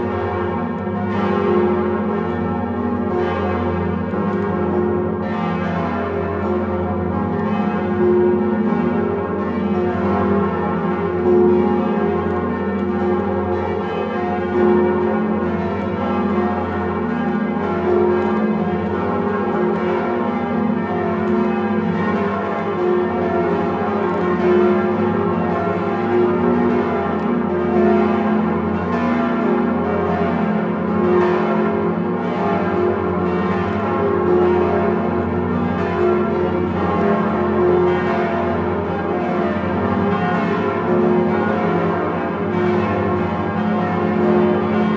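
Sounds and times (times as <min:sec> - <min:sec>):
church bells pealing: 0:00.0 - 0:44.9.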